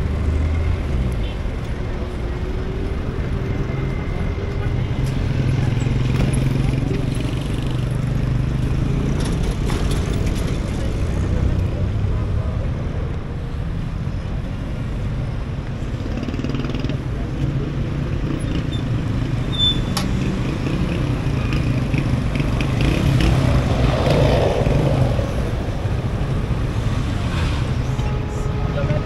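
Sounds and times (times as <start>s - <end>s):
cars driving past: 0.0s - 29.0s.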